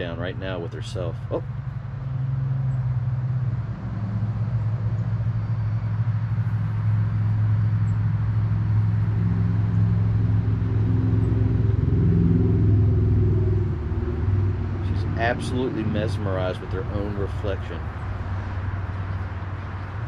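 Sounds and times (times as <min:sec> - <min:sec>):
steady low motor drone: 0:00.0 - 0:20.0.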